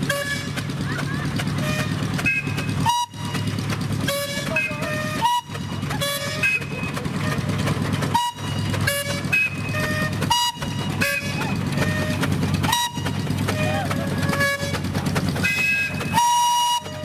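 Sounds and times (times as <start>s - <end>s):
steam engine rumbling: 0.0s - 17.0s.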